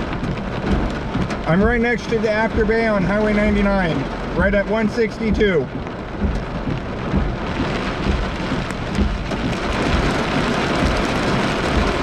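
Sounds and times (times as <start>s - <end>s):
car road rumble: 0.0s - 12.0s
heavy rain on car roof: 0.0s - 12.0s.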